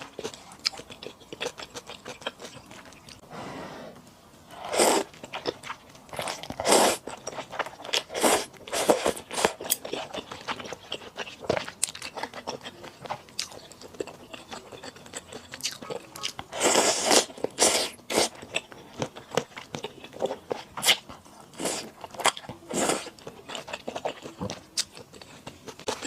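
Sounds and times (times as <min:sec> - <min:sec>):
wet chewing: 0:00.0 - 0:03.2, 0:05.0 - 0:26.0.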